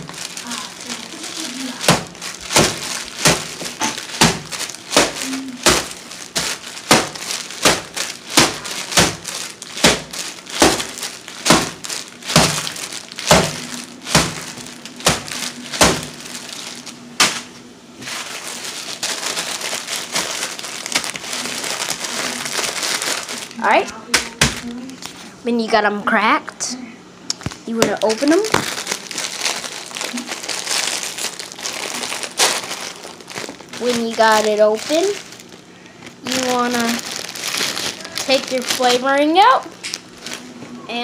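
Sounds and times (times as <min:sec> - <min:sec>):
dry noodles crushed in wrapper: 0:00.0 - 0:17.4, 0:18.0 - 0:23.6, 0:27.3 - 0:40.5
plastic wrapper crinkling: 0:00.0 - 0:25.3, 0:27.3 - 0:40.7.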